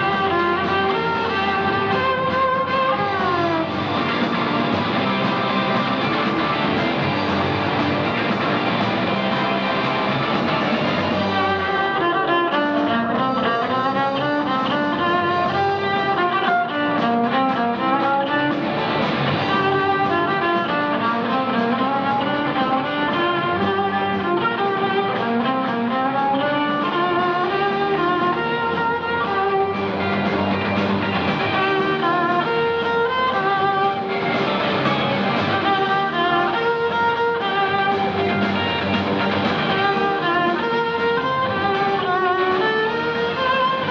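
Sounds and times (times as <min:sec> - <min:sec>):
lower accompaniment: 0:00.0 - 0:43.9
violin playing lively melody: 0:00.0 - 0:43.9.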